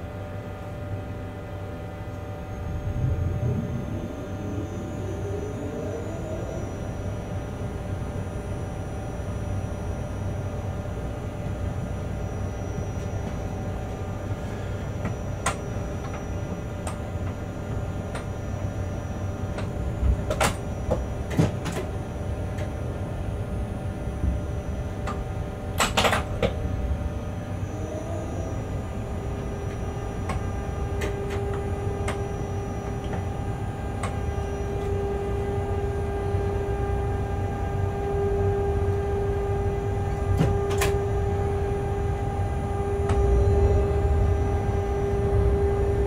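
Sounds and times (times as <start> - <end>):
locomotive rumble and hum: 0.0 - 46.0
whining tones: 0.9 - 46.0.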